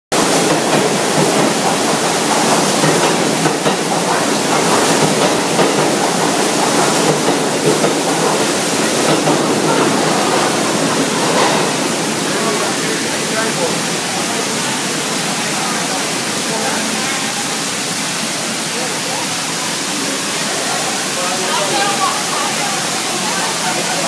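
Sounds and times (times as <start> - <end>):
subway train: 0.1 - 24.0
water gushing from pipe: 0.1 - 24.0.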